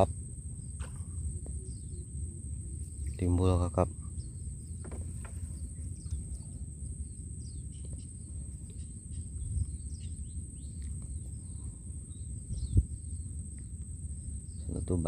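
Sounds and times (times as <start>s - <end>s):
birds chirping: 0.0s - 15.0s
low rumble: 0.0s - 15.0s.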